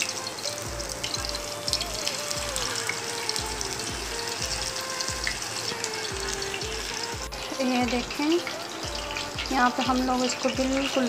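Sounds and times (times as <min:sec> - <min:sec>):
meat deep-frying in oil: 0:00.0 - 0:11.0
slow melodic music with beat: 0:00.0 - 0:11.0.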